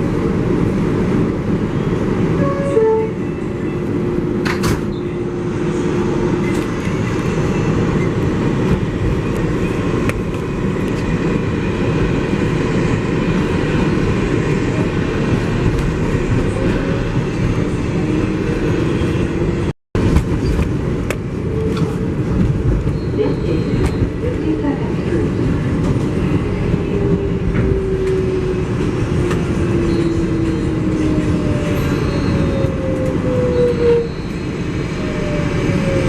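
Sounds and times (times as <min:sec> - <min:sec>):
subway train rumbling on rails: 0:00.0 - 0:36.0.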